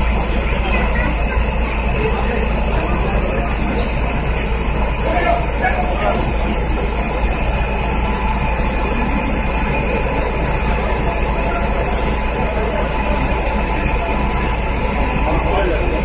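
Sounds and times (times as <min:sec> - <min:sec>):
fire truck engine running: 0:00.0 - 0:16.0.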